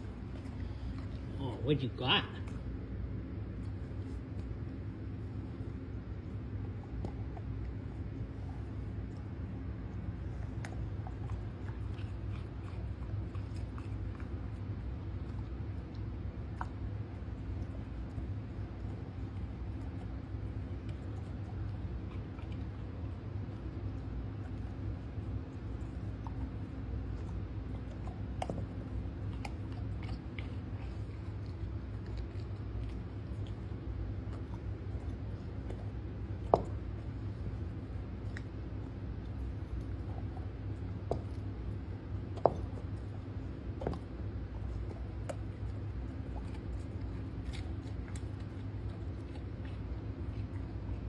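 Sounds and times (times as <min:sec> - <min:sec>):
dog crunching cucumber: 0:00.0 - 0:51.0
low hum: 0:00.0 - 0:51.0
steady low rumble: 0:00.0 - 0:51.0.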